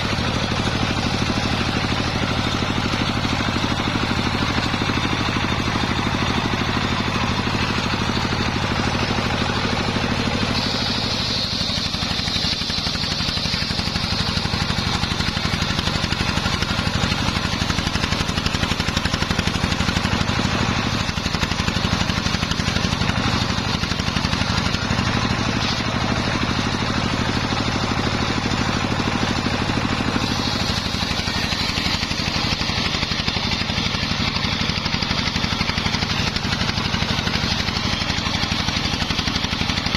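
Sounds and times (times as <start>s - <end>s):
saw blade cutting wood whine: 0.0s - 39.9s
sawmill engine running: 0.0s - 39.9s.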